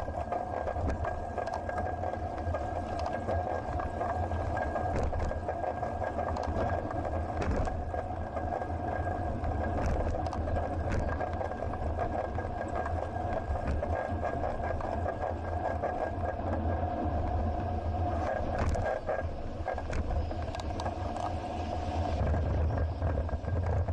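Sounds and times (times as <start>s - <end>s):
bicycle hum and rattle: 0.0s - 23.9s.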